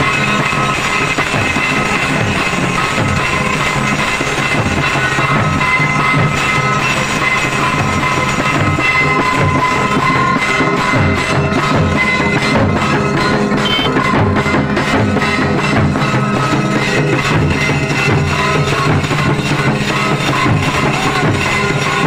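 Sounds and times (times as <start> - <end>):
folk drumming: 0.0 - 22.0
hand cymbals ringing: 0.0 - 22.0.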